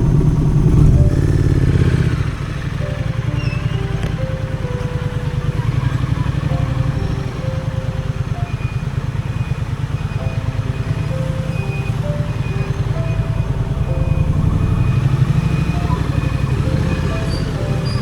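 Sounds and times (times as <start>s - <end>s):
motorcycle engine running: 0.0s - 18.0s
music: 0.0s - 18.0s.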